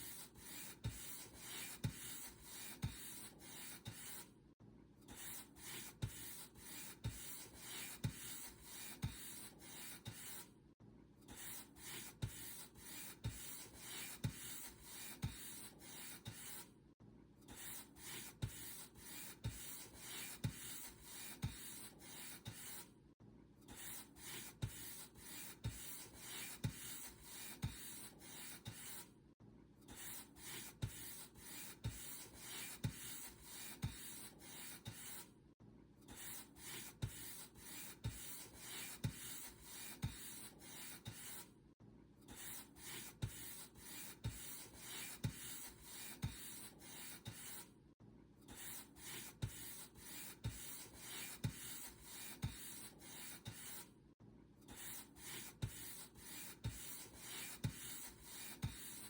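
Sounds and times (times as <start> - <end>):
paint brush strokes: 0.0 - 4.3, 5.2 - 10.5, 11.3 - 16.7, 17.5 - 22.9, 23.7 - 29.1, 29.9 - 35.3, 36.1 - 41.5, 42.3 - 47.7, 48.5 - 53.9, 54.7 - 59.0.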